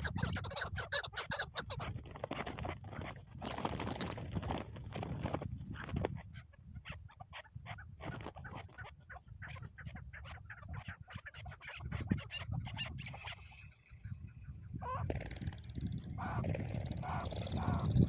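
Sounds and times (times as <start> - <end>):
partridge clucking calls: 0.0 - 18.0.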